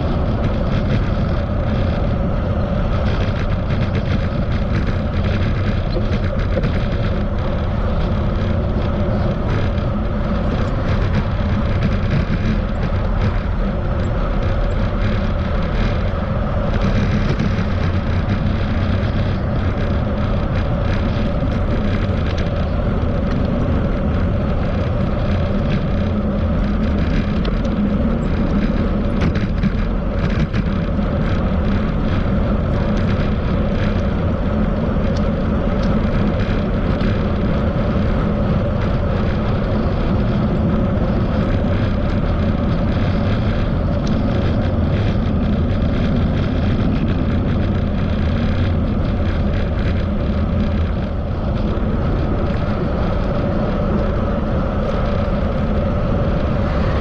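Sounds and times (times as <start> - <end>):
road traffic rumble: 0.0 - 57.0
wind on microphone: 0.0 - 57.0.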